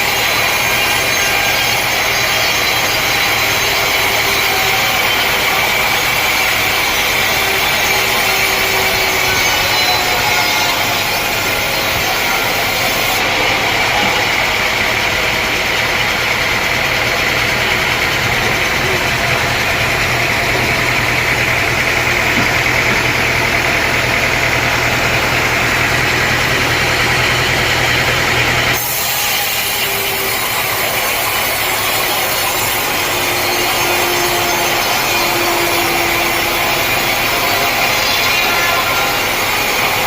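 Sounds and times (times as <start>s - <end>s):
saw cutting through timber: 0.0s - 40.0s
sawmill engine running: 0.0s - 40.0s.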